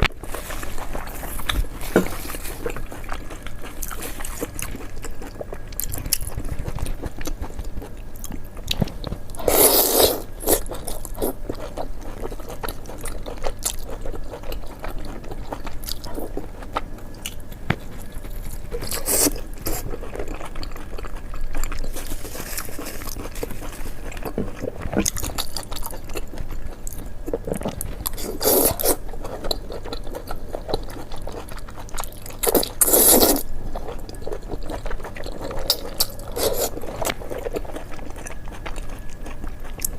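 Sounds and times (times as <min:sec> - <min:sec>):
crisp food crunching: 0:00.0 - 0:39.9.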